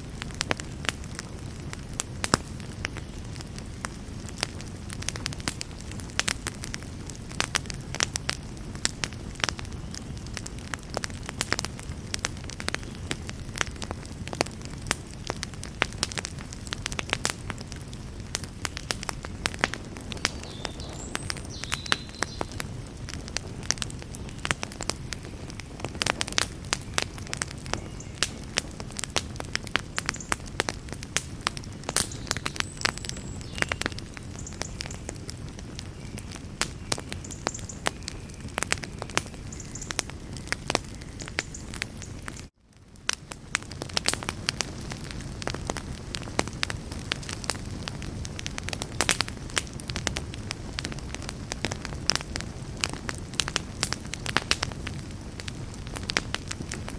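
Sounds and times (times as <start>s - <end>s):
campfire crackling and popping: 0.0s - 56.9s
low rumble of flames: 0.0s - 56.9s.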